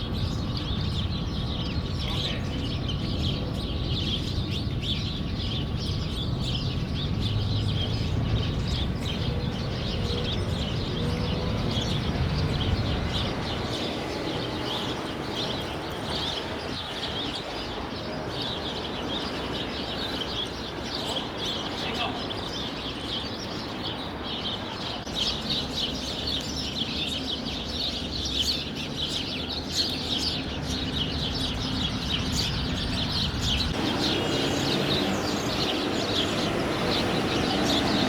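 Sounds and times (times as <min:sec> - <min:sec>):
sparrows chirping: 0:00.0 - 0:38.0.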